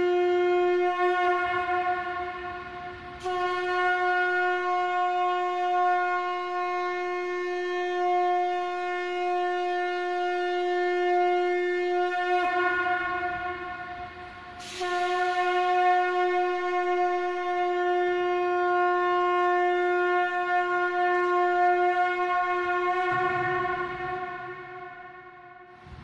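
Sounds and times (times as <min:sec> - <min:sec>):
conch shell blown: 0:00.0 - 0:26.0.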